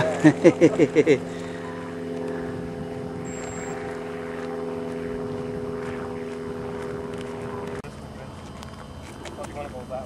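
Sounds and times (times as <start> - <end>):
model airplane motor running: 0.0 - 10.0.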